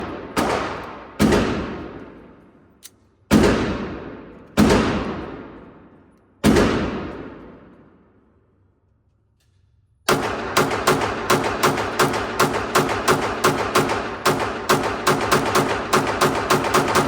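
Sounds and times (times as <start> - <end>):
pistol shots echoing: 0.0 - 8.1, 10.1 - 17.0.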